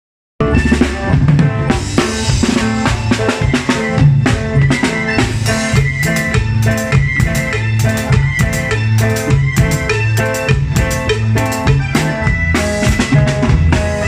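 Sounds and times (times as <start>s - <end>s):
band playing cumbia: 0.4s - 14.0s
drum kit beat: 0.4s - 14.0s.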